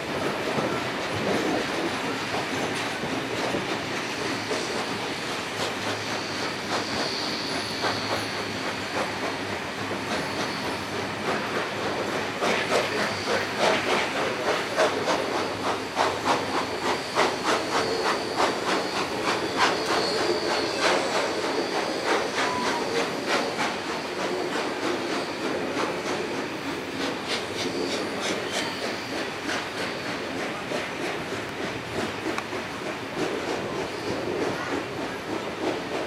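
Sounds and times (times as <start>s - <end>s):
high wheel squeal: 0.2s - 36.0s
train wheels clattering over rail joints: 0.2s - 36.0s.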